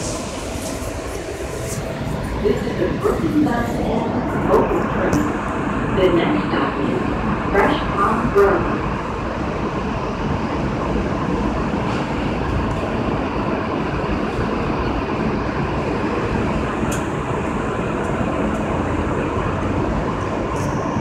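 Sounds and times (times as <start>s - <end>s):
subway cab noise: 0.0s - 21.0s.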